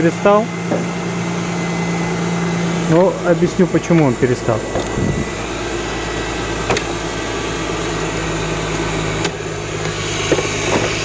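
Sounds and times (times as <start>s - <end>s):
car engine idling: 0.3s - 11.0s.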